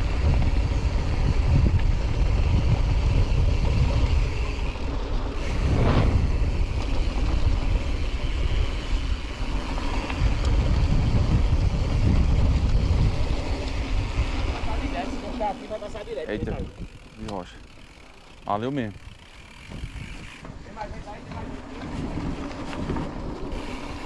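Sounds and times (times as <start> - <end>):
wind rumbling on microphone: 0.0 - 17.7, 18.9 - 24.0
bike tyre and riding noise: 0.0 - 24.0.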